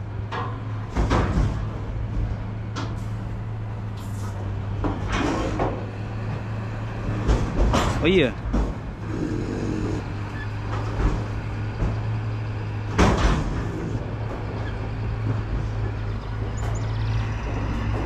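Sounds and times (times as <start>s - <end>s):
cattle thumping trailer: 0.0s - 18.0s
diesel engine idling: 1.6s - 18.0s.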